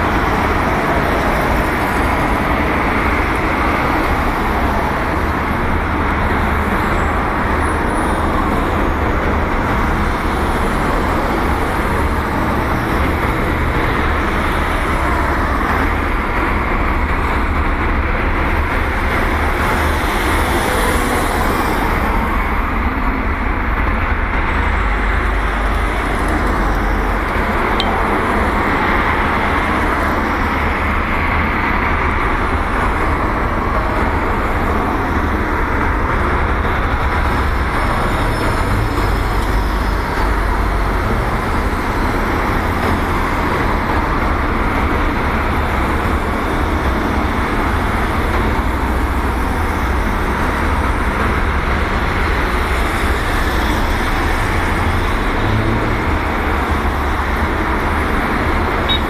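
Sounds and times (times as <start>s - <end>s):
outdoor background rumble: 0.0s - 59.0s.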